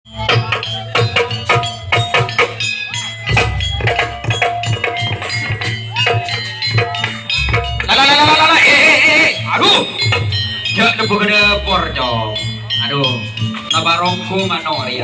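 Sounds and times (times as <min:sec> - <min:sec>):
drums in steady rhythm: 0:00.1 - 0:15.0
ringing metallic percussion: 0:00.1 - 0:15.0.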